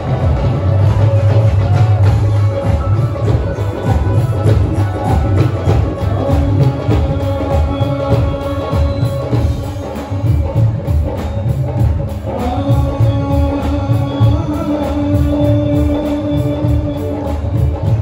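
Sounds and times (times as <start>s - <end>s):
man singing with live band: 0.0s - 18.0s.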